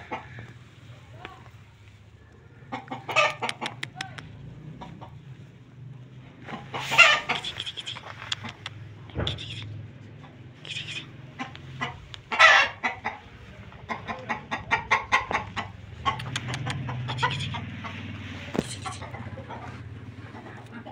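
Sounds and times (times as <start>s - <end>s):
chickens clucking: 0.0s - 20.9s.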